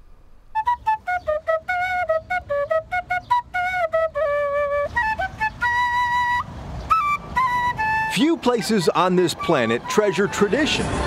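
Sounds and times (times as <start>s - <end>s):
flute melody: 0.5s - 11.0s.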